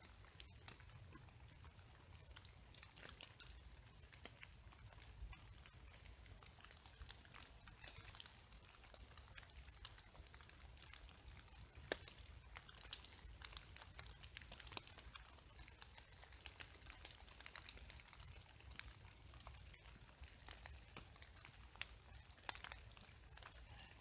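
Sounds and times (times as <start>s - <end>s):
raindrops ticking on branches: 0.0s - 24.0s
soft steady hiss: 0.0s - 24.0s.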